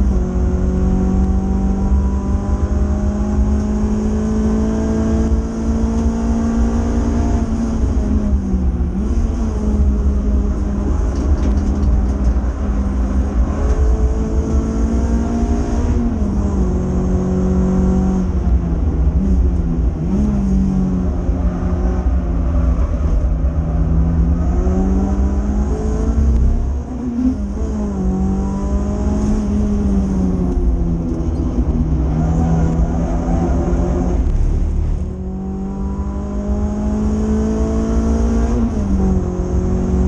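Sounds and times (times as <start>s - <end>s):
car engine at race pace: 0.0s - 40.0s
low road and wind rumble: 0.0s - 40.0s.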